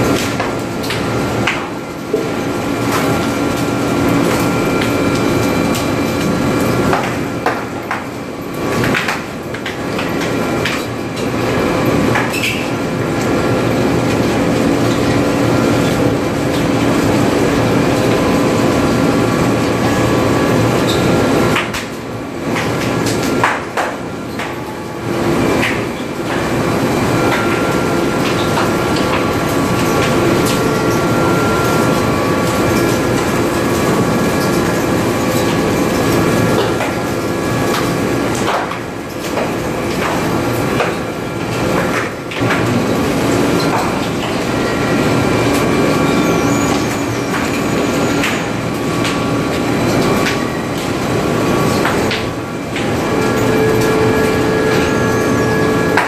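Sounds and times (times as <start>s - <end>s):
factory machinery drone: 0.0s - 56.0s.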